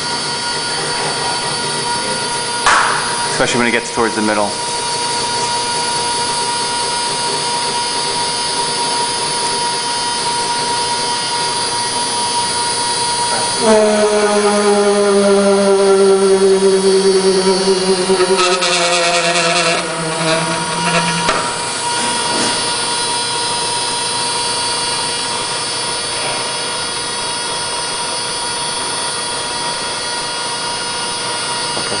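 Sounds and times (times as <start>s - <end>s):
machine hum: 0.0s - 32.0s
stage motor whining and rattling: 0.0s - 32.0s.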